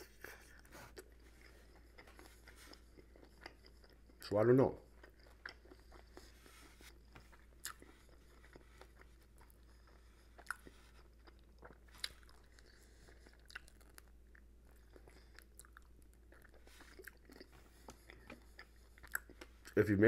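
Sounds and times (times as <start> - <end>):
man chewing food: 0.0 - 19.8.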